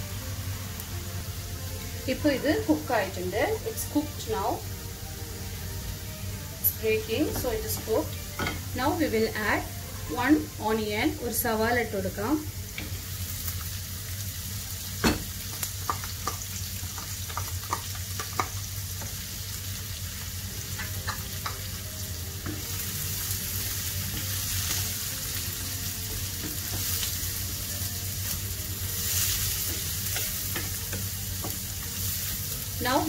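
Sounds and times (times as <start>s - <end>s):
potatoes sizzling in oil: 0.0s - 33.0s.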